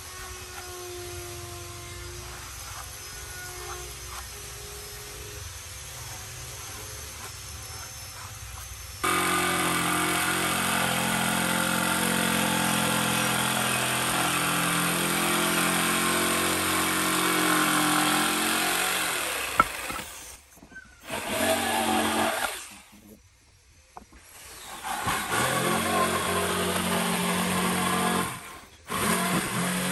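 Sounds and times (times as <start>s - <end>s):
jigsaw cutting wood: 0.0s - 20.4s, 21.0s - 23.2s, 24.3s - 29.9s.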